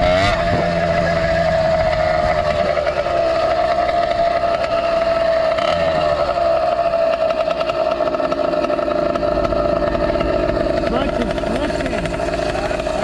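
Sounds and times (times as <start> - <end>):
two-stroke engine buzzing: 0.0 - 13.0.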